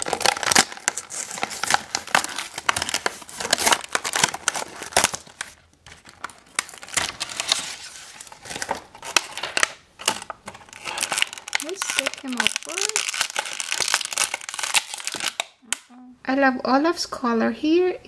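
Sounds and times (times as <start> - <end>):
plastic packaging crinkling: 0.0 - 15.9.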